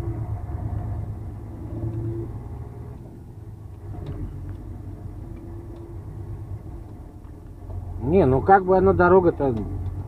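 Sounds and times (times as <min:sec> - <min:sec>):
truck diesel engine rumble: 0:00.0 - 0:10.0
tyre noise on rough road: 0:00.0 - 0:10.0.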